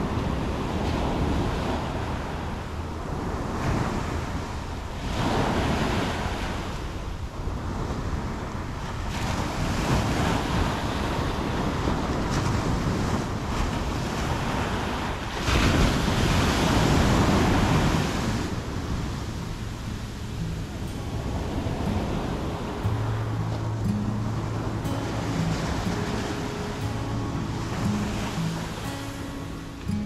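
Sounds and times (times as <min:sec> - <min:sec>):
waves breaking on beach: 0:00.0 - 0:30.0.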